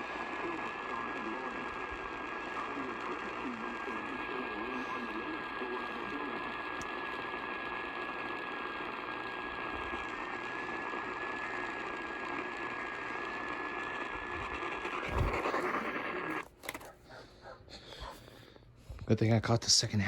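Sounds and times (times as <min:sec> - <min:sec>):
radio static hiss: 0:00.0 - 0:17.2.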